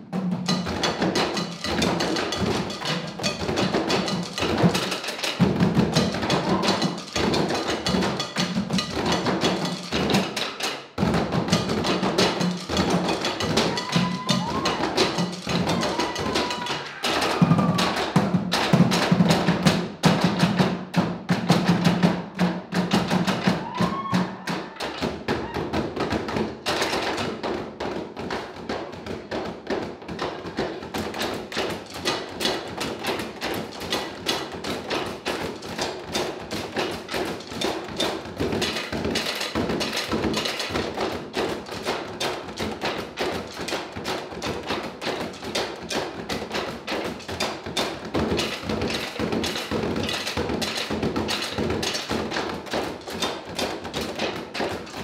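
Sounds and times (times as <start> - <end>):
barrel drums struck with sticks: 0.0 - 55.0.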